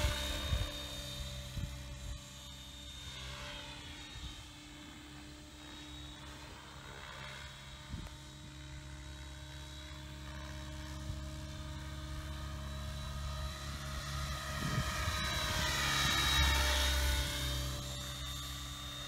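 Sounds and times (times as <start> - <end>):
rc helicopter rotor whine: 0.0 - 19.0.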